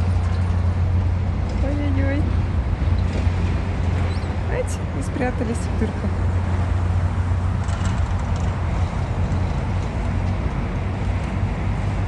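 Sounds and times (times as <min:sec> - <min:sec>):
passing cars rumble: 0:00.0 - 0:12.0.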